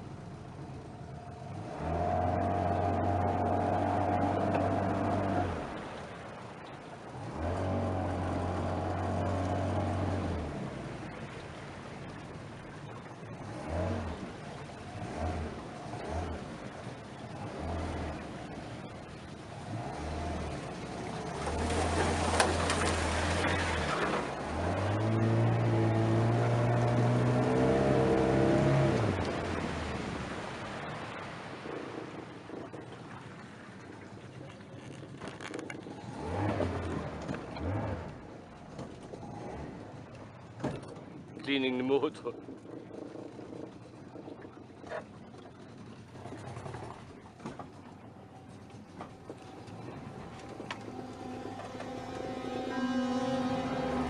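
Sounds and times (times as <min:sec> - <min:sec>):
boat outboard motor running: 0:00.0 - 0:54.0.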